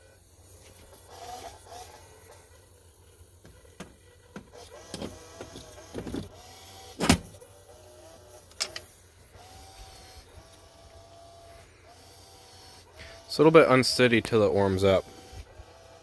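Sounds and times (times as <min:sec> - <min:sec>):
small electric motor whirring: 0:00.0 - 0:16.0.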